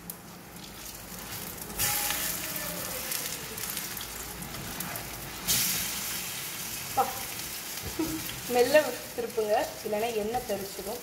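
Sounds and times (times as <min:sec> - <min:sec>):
fritters sizzling in oil: 0:00.0 - 0:11.0.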